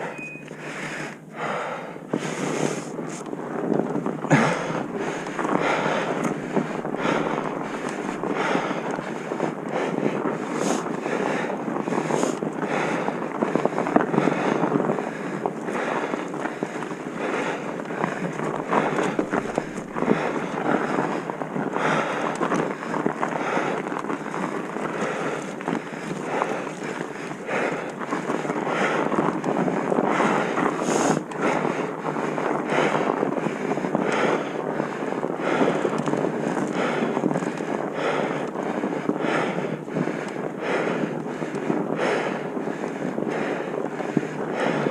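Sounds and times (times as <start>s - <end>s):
wind buffeting microphone: 1.1s - 44.9s.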